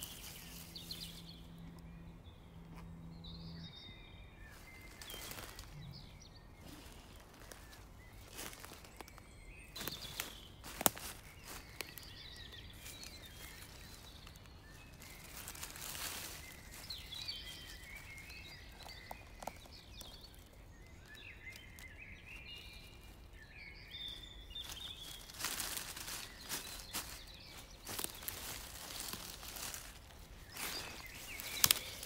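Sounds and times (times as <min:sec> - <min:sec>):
dry leaves rustling: 0:00.0 - 0:02.0, 0:04.4 - 0:32.0
songbird singing: 0:00.0 - 0:32.0.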